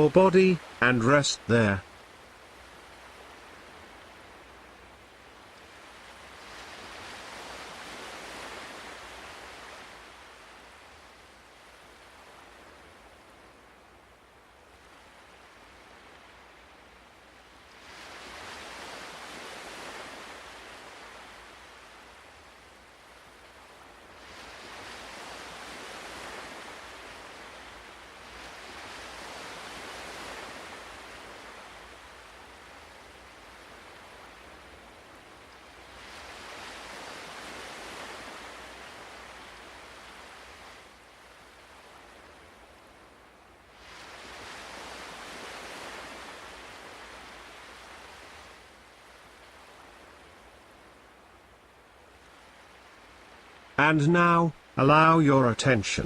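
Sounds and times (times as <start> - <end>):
ocean waves washing: 0.0 - 56.0.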